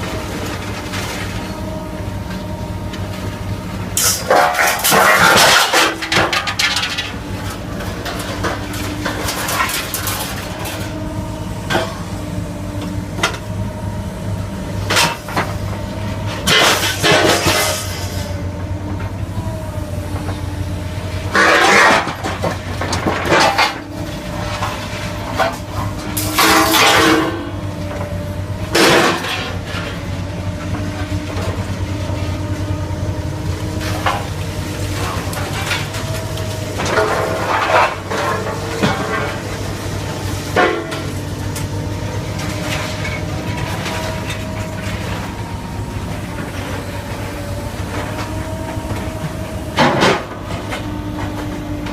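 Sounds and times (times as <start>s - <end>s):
heavy machine humming and whining: 0.0s - 51.9s.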